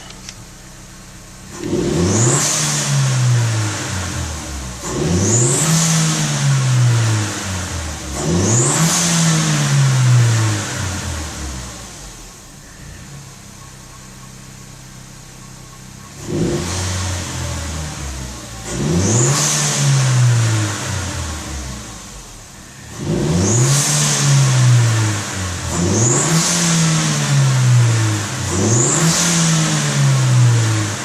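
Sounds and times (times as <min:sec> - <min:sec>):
car engine revving: 0:00.0 - 0:13.4, 0:14.7 - 0:31.0.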